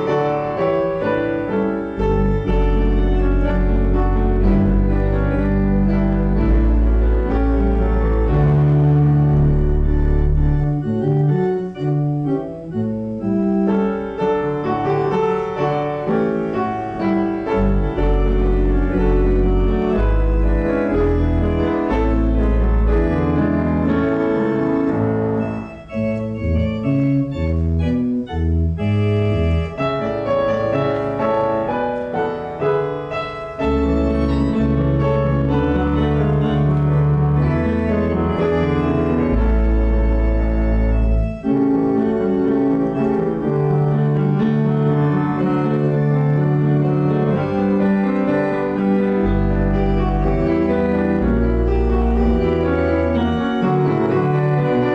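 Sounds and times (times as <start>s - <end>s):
slow organ music: 0.0s - 54.9s.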